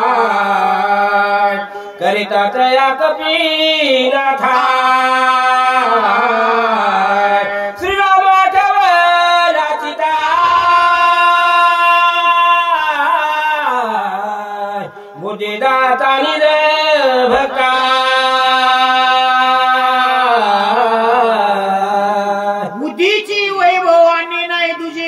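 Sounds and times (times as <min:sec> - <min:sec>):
person singing devotional verse: 0:00.0 - 0:25.0.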